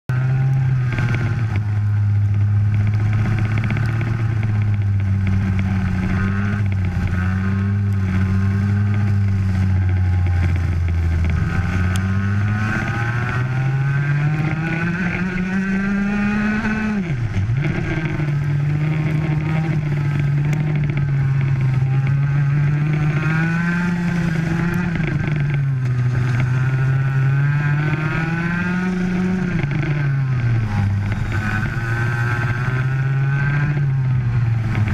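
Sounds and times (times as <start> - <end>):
kart engine running hard: 0.1 - 34.9.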